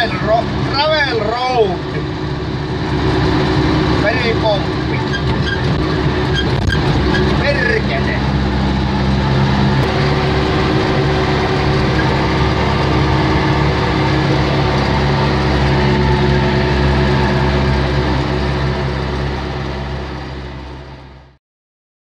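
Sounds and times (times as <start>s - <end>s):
tractor diesel engine running: 0.0s - 21.4s.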